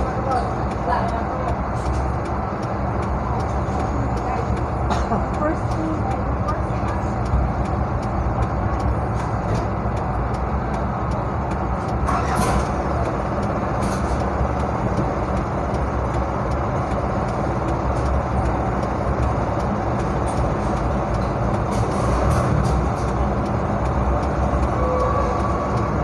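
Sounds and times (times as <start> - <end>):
faint ticking: 0.0 - 12.1, 12.7 - 26.0
low rumbling noise: 0.0 - 26.0.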